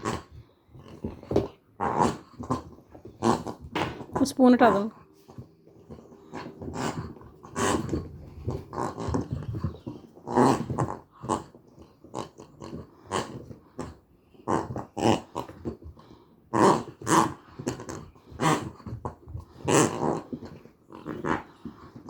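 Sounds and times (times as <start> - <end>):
puppy growling and grunting: 0.0 - 22.0.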